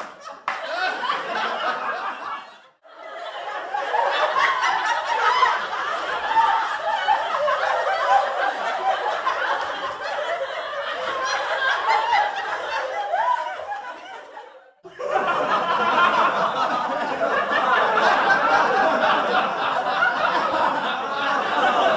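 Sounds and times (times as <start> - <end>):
studio audience laughing: 0.0 - 21.9.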